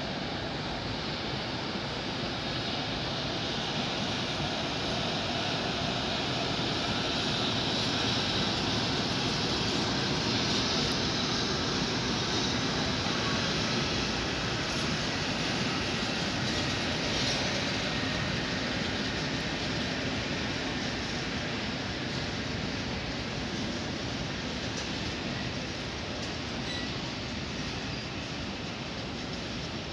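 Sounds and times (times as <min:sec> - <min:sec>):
freight train wheels rumbling on rail: 0:00.0 - 0:29.9.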